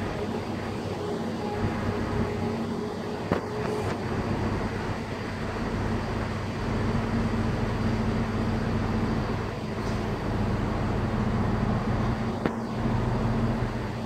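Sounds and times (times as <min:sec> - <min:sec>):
diesel railcar idling: 0:00.0 - 0:14.0.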